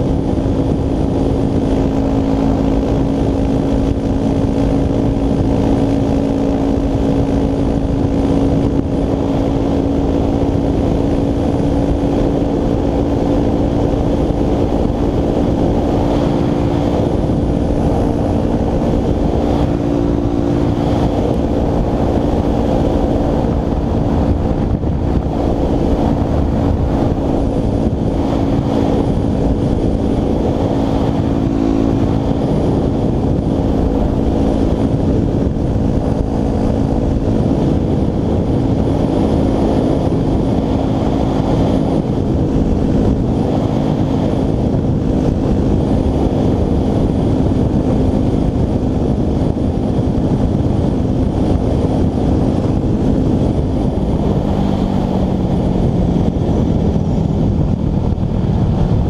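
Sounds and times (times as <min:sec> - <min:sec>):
dirt bike engine running: 0:00.0 - 0:59.0
wind rush over microphone: 0:00.0 - 0:59.0.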